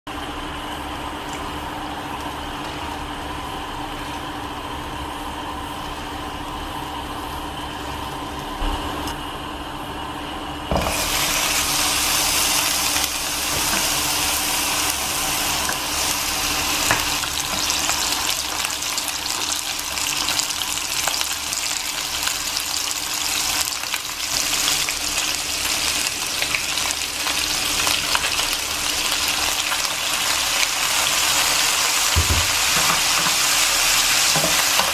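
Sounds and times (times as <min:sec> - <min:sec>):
chicken frying sizzle: 0:00.1 - 0:34.9.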